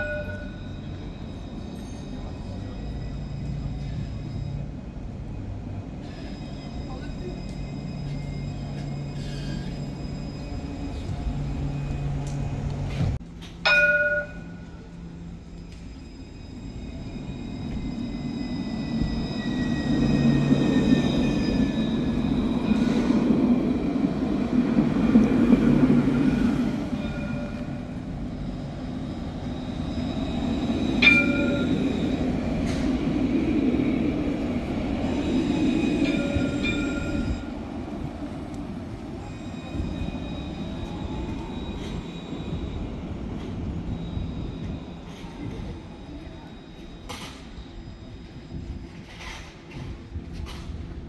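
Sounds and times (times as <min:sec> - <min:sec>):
tram rolling rumble: 0:00.0 - 0:51.0.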